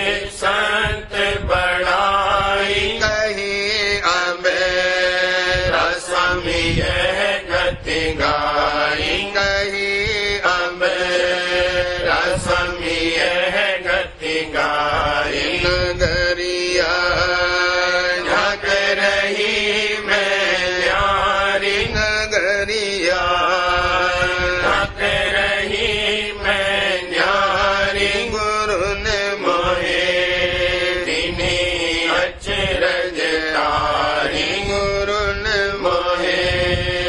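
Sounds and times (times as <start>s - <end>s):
person chanting melodically: 0.0s - 37.0s.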